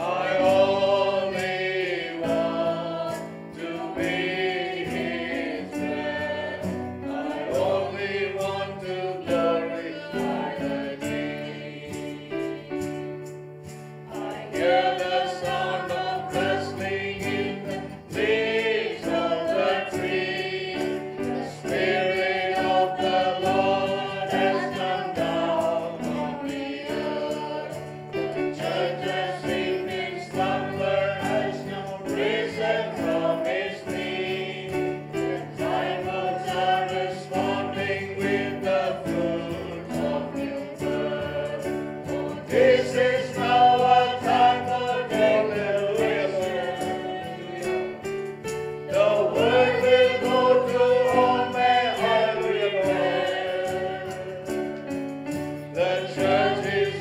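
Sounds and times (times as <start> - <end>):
choir singing worship song: 0.0 - 57.0.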